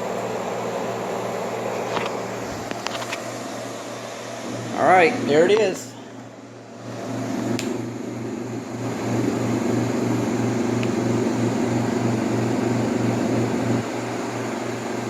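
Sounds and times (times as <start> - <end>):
air conditioner compressor hum: 0.0 - 15.0.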